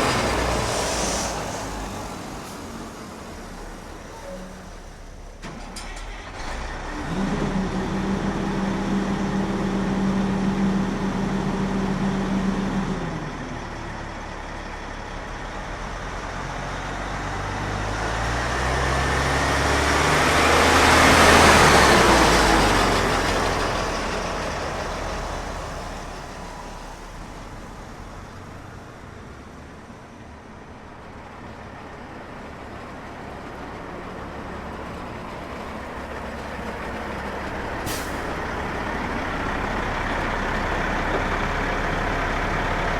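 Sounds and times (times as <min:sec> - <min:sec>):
diesel truck engine: 0:00.0 - 0:42.9
truck driving by: 0:00.0 - 0:42.9.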